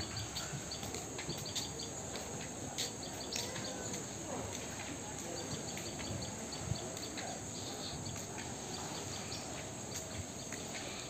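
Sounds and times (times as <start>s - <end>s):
insects chirping: 0.0s - 11.0s
steady background hiss: 0.0s - 11.0s.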